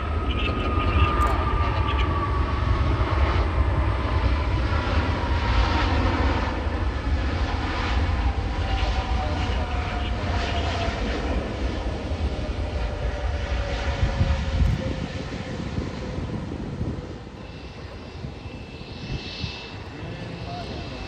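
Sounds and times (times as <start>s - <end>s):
jet airliner engines passing: 0.0s - 21.0s.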